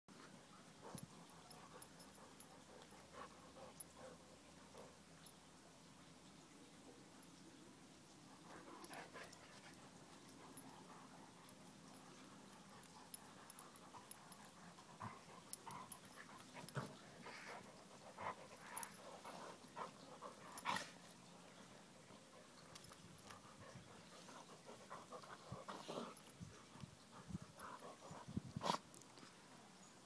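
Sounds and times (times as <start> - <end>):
dogs snuffling and vocalizing: 0.1 - 5.6, 8.2 - 29.7
dogs panting: 0.2 - 5.1, 8.3 - 28.9.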